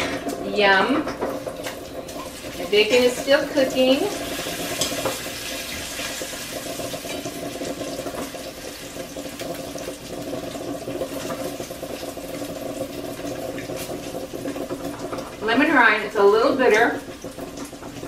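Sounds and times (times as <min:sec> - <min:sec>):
bacon sizzling in a frying pan: 0:00.0 - 0:18.0.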